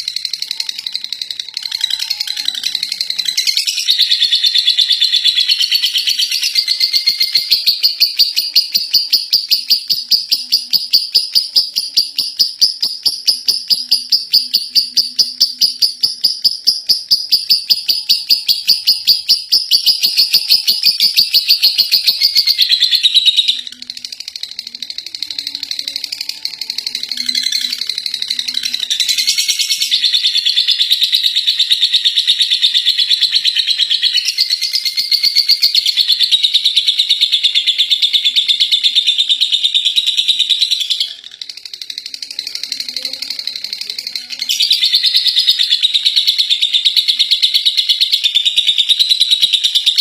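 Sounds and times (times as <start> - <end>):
bird high chattering: 0.0 - 50.0.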